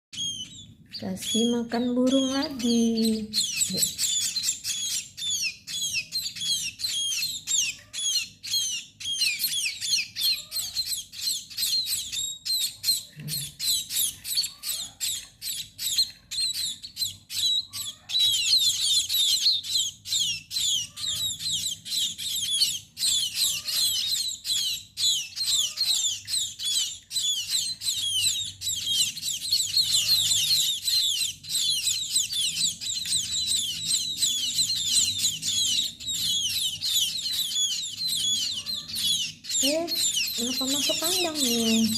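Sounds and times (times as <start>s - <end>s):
flock of small birds chirping: 0.1s - 41.9s.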